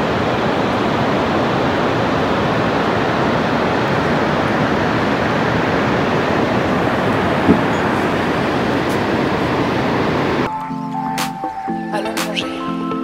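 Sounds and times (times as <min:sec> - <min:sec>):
fast river rushing: 0:00.0 - 0:10.5.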